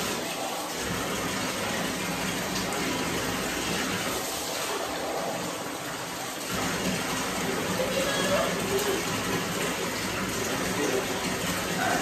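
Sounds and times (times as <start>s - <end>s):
water running into bathtub: 0.0s - 12.0s.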